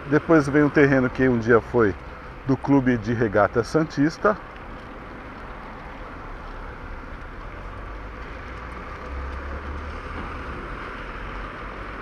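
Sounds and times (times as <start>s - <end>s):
passing car traffic: 0.0s - 12.0s.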